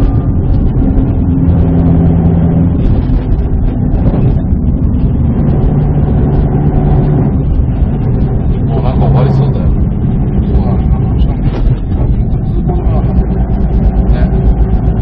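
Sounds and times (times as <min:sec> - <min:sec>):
car engine running: 0:00.0 - 0:15.0
tyre and road noise: 0:00.0 - 0:15.0.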